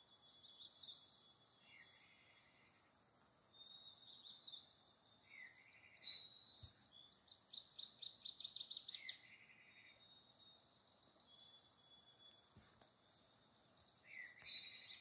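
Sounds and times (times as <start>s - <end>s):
faint bird song: 0.0s - 15.0s.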